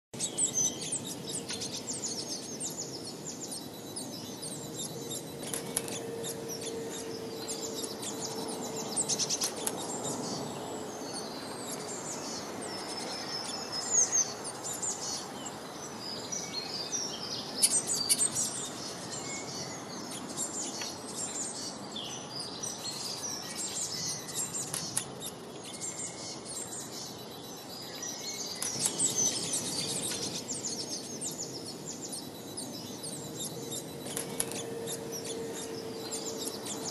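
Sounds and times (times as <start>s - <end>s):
small birds chirping and singing: 0.1s - 36.9s
steady background hiss: 0.2s - 36.9s.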